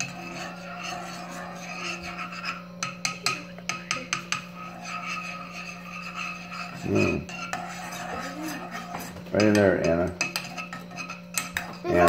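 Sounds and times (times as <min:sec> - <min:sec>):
spoon clinking against saucepan: 0:00.0 - 0:12.0.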